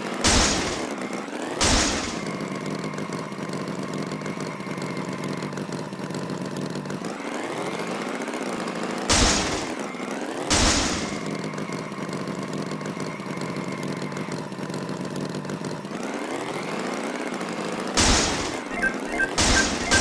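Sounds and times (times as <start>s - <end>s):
cartoon tractor engine idling: 0.0s - 20.0s.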